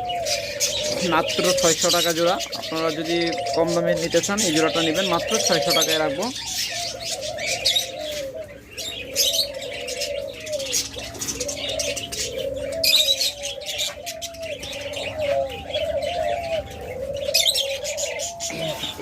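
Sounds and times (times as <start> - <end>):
budgerigars chirping: 0.0 - 19.0
doves cooing: 0.0 - 19.0.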